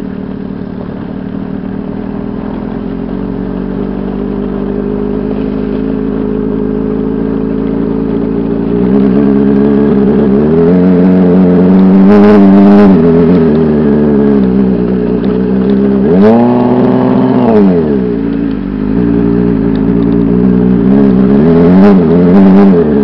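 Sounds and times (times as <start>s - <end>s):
motor vehicle engine revving: 0.0s - 23.0s.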